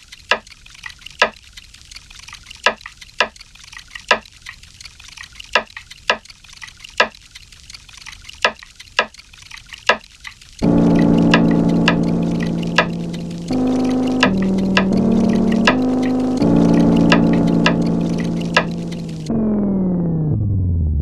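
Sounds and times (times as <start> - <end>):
sharp percussive clicks: 0.0 - 19.3.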